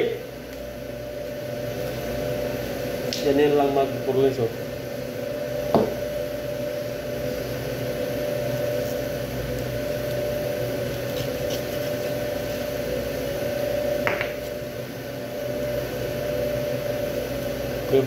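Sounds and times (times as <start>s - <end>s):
machine hum with whine: 0.0s - 18.0s.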